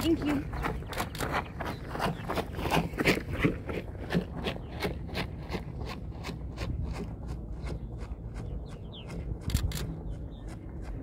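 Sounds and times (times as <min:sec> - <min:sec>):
footsteps on gravel: 0:00.0 - 0:11.0.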